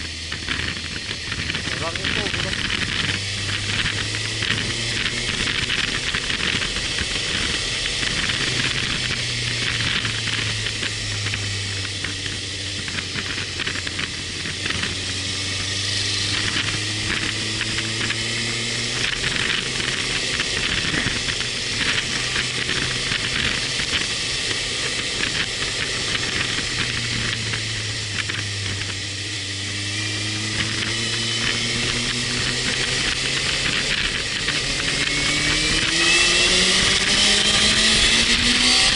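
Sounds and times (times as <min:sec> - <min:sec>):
motorcycle engine revving: 0:00.0 - 0:38.9
wind noise on microphone: 0:00.0 - 0:38.9.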